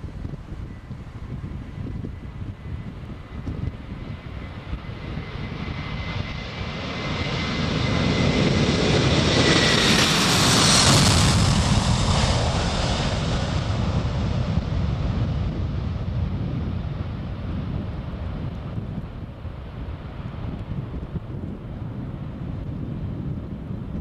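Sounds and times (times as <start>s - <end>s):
jet airliner roar: 0.0s - 24.0s.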